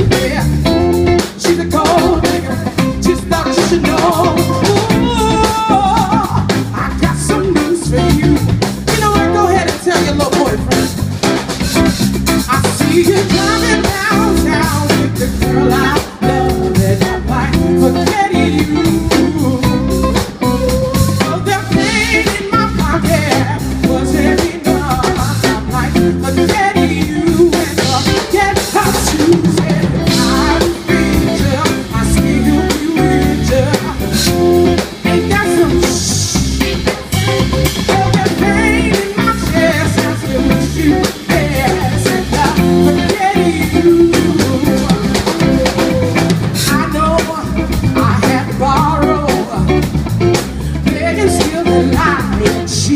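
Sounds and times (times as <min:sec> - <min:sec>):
bass: 0:00.0 - 0:52.9
drum kit: 0:00.0 - 0:52.9
guitar: 0:00.0 - 0:52.9
person singing: 0:00.0 - 0:52.9.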